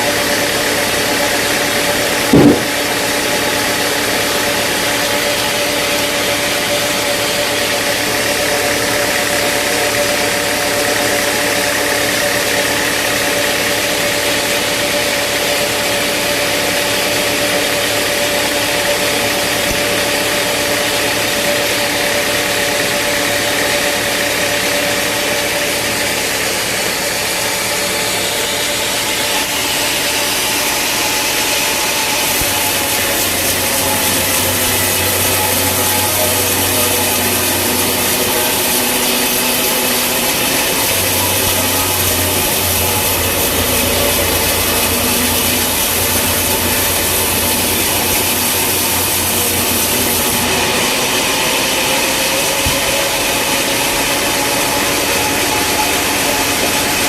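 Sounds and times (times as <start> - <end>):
saw cutting through wood: 0.0 - 3.2, 3.8 - 57.0.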